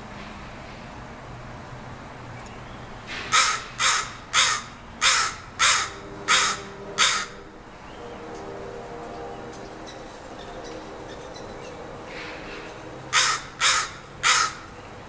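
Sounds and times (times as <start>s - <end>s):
loud harsh bird calls: 2.6s - 15.0s.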